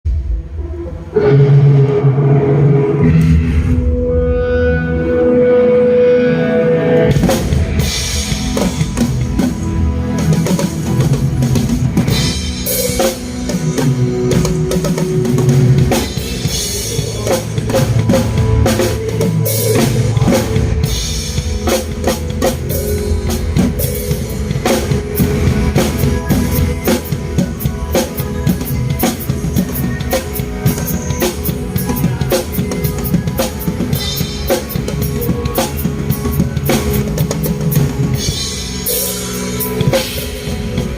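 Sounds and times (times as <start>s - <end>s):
backing track sustained notes: 0.1s - 40.9s
drum kit rock groove: 1.9s - 40.9s.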